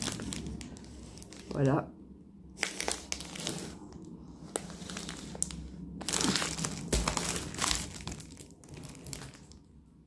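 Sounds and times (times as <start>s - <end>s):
plastic wrapping crinkling: 0.0s - 1.6s, 2.6s - 9.7s.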